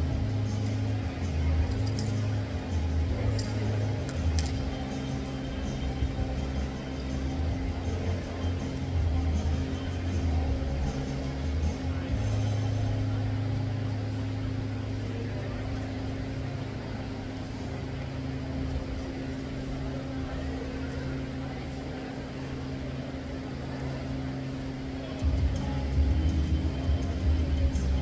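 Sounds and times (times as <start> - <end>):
low droning hum: 0.0 - 28.0.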